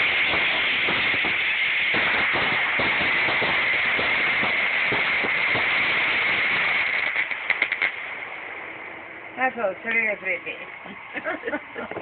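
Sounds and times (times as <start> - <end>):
fireworks hissing and crackling: 0.0 - 12.0.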